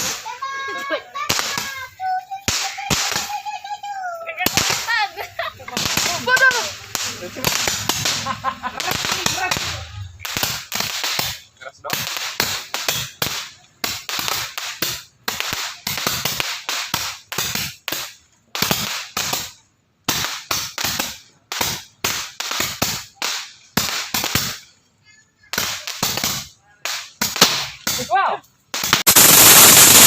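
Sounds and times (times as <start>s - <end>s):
firecrackers banging: 0.0s - 30.0s.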